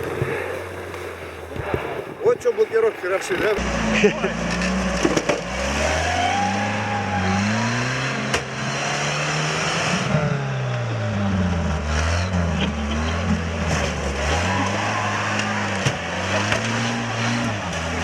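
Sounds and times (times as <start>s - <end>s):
engine revving under load: 3.4s - 18.0s.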